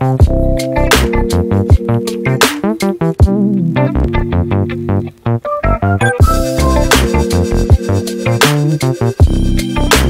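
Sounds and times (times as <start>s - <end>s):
electronic music with drum-machine beat: 0.0s - 10.0s.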